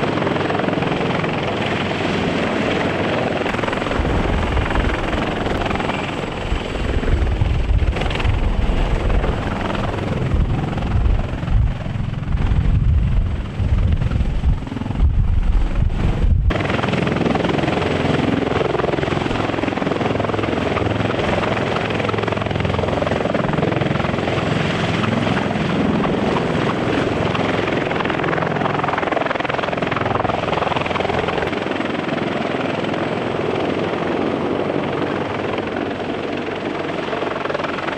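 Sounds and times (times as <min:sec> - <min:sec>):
helicopter rotor and engine noise: 0:00.0 - 0:37.9.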